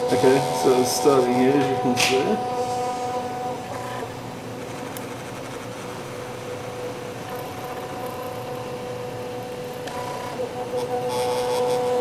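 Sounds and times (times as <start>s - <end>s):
higher whine: 0.0s - 12.0s
printer motors and fan whine: 0.0s - 12.0s.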